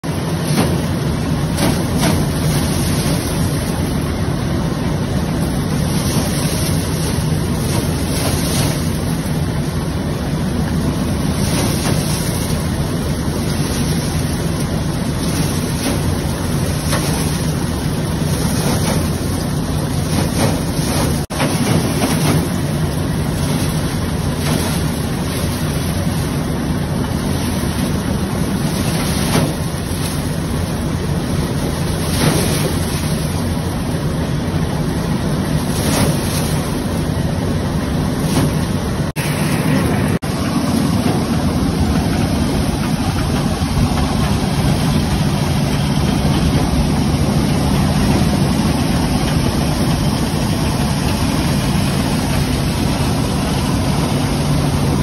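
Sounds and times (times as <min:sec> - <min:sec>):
threshing machine running: 0:00.0 - 0:55.0.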